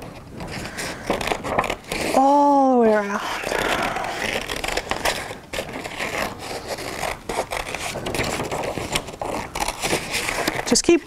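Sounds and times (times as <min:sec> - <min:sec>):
paper rustling: 0:00.0 - 0:11.0
scissors snipping paper: 0:00.5 - 0:02.2, 0:03.2 - 0:11.0.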